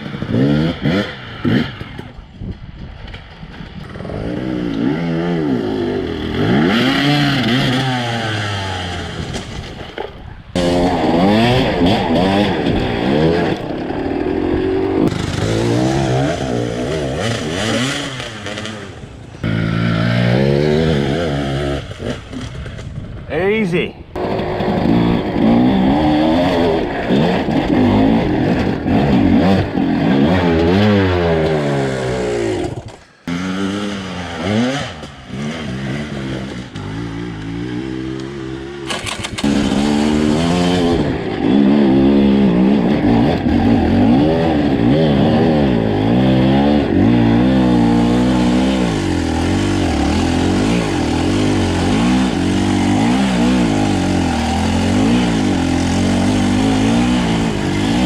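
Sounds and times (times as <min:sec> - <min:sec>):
dirt bike engine revving: 0:00.0 - 0:02.6, 0:03.4 - 0:58.0.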